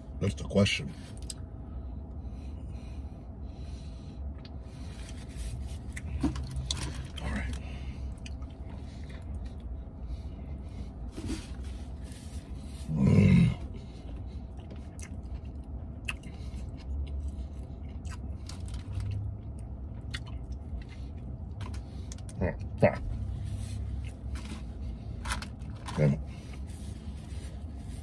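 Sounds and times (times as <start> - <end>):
man chewing a burger: 1.0 - 28.0.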